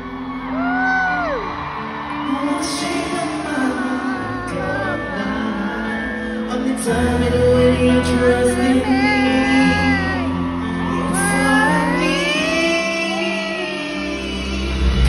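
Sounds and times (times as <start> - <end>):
live pop music over sound system: 0.0 - 15.0.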